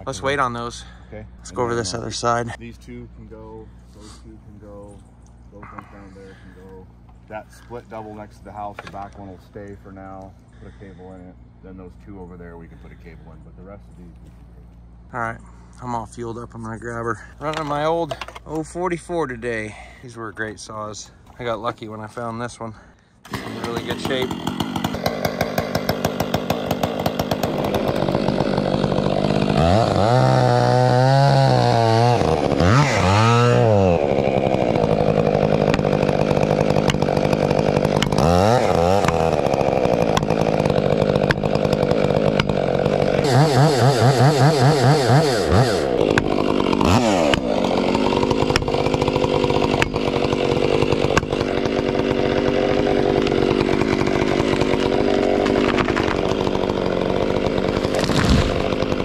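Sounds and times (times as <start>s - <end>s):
chainsaw revving: 0.0s - 13.4s, 23.2s - 59.0s.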